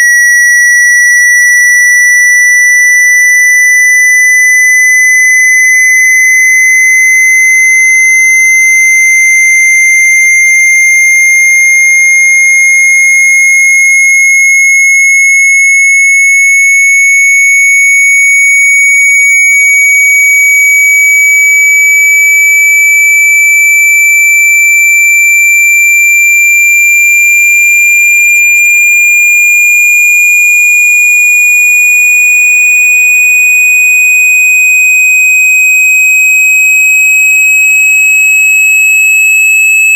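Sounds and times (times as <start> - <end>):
rising high-pitched sine tone: 0.0 - 39.9.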